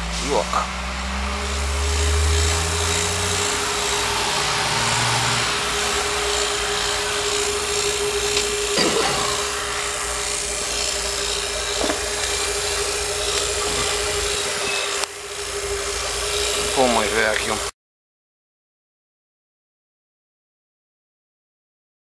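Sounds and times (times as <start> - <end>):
vacuum pump humming and hissing: 0.0 - 17.7.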